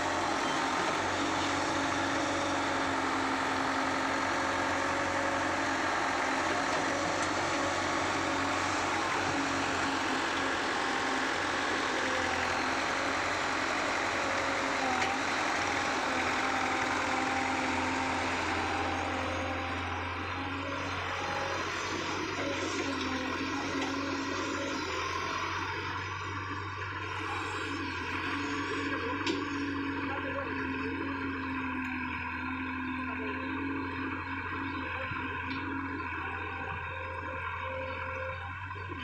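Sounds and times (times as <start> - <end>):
heavy machinery engine humming: 0.0 - 39.0.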